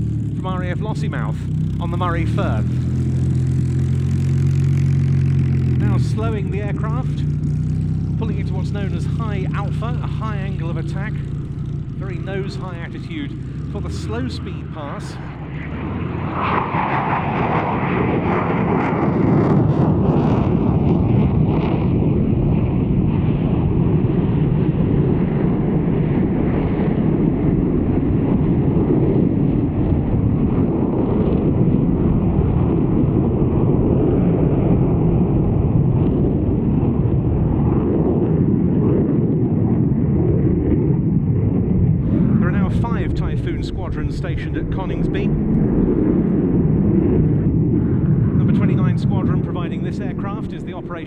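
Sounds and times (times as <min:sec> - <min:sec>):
jet engine rumble: 0:00.0 - 0:51.0
jet engine whine: 0:00.0 - 0:51.0.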